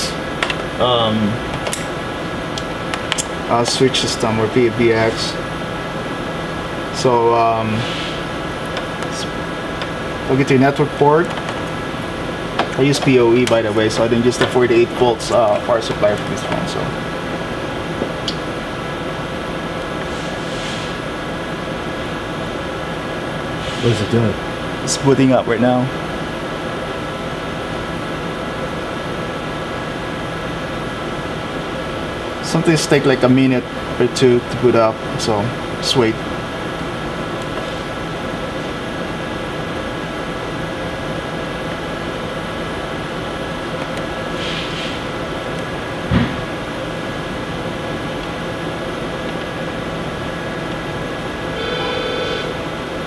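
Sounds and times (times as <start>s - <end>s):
steady hiss and hum: 0.0s - 53.0s
ventilation whir: 0.0s - 53.0s.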